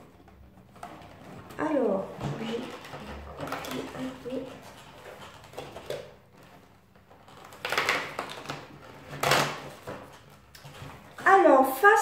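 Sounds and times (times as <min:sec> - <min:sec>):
cardboard packaging rustling: 0:00.0 - 0:11.5.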